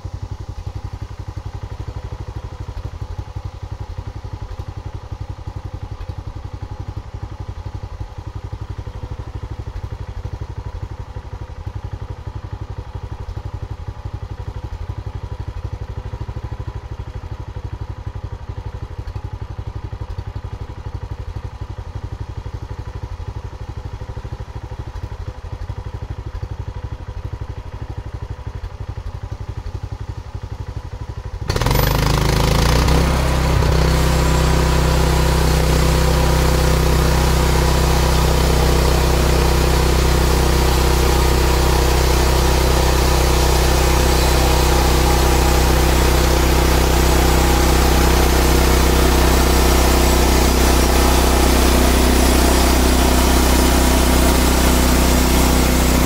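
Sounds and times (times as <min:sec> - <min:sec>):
engine idling and revving: 0:00.0 - 0:56.0.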